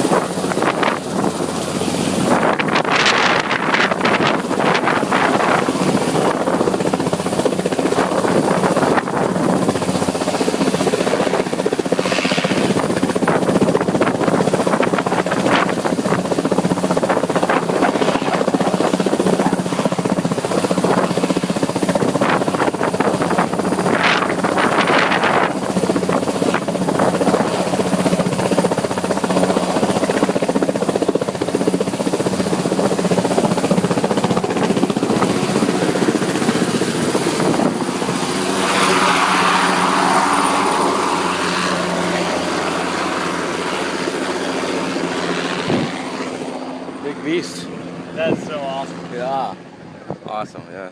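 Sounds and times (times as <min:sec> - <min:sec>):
helicopter rotor and turbine: 0:00.0 - 0:50.9.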